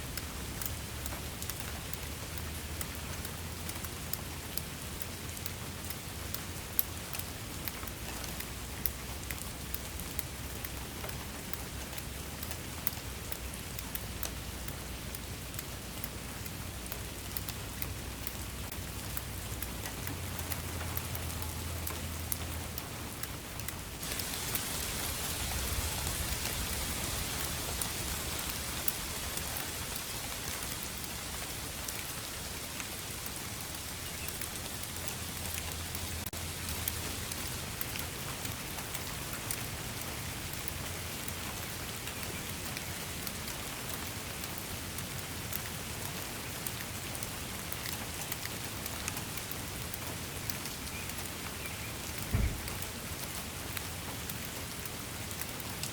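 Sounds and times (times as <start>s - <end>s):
raindrop ticks: 0.0s - 55.9s
steady rain hiss: 0.0s - 55.9s.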